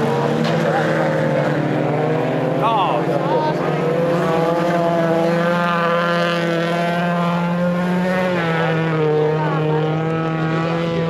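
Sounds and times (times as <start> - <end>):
race car engines revving high: 0.0 - 11.0.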